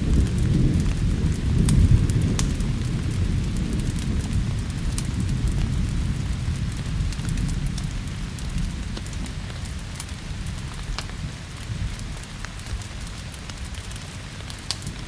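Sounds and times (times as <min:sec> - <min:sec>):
low thunder rumble: 0:00.0 - 0:12.2
steady rain: 0:00.0 - 0:15.0
wood fire crackling: 0:00.0 - 0:15.0.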